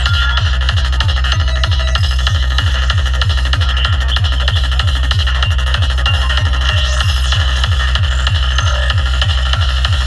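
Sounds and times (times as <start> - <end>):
fast kick drum: 0.0 - 10.0
layered synths: 0.0 - 10.0
rolling bassline: 0.0 - 10.0.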